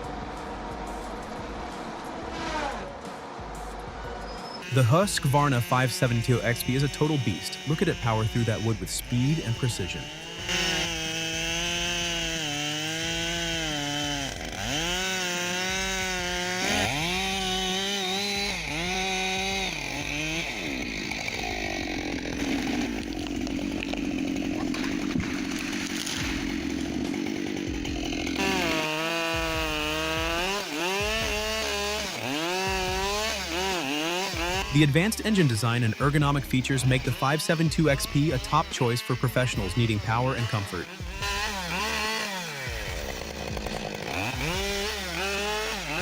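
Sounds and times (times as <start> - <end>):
chainsaw cutting wood: 0.0 - 3.4, 4.6 - 46.0.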